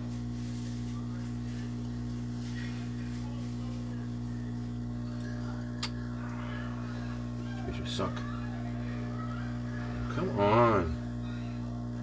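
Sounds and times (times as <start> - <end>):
hot air station humming: 0.0 - 12.0.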